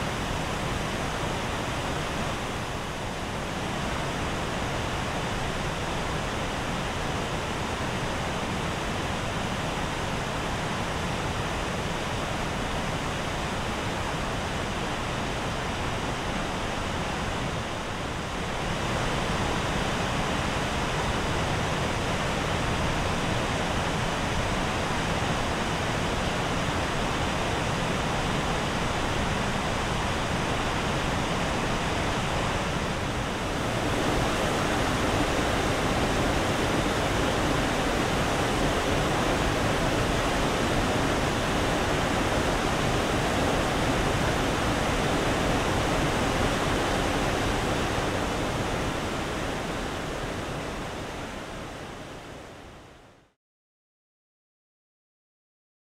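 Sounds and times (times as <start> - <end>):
waterfall rushing: 0.0 - 52.6.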